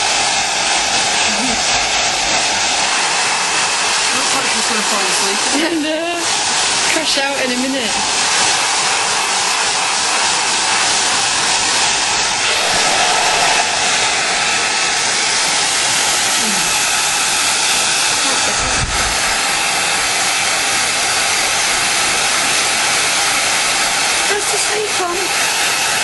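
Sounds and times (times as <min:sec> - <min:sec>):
hair dryer running: 0:00.0 - 0:26.0.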